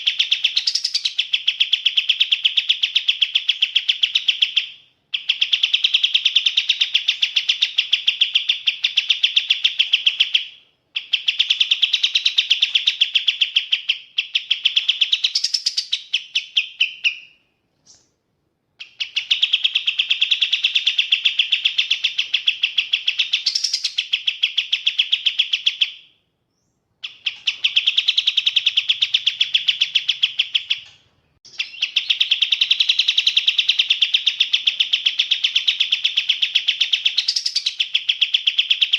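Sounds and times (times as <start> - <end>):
songbird trilling: 0.0 - 18.1, 18.8 - 38.9.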